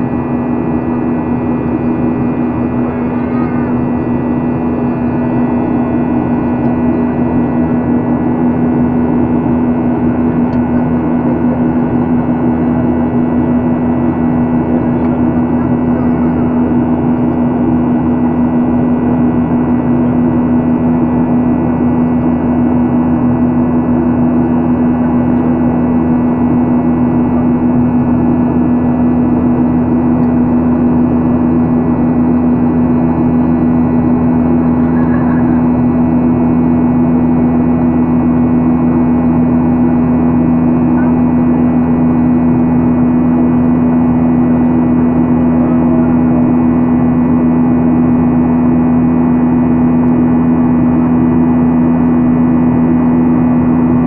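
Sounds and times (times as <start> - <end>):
airplane cabin engine drone: 0.0 - 54.0.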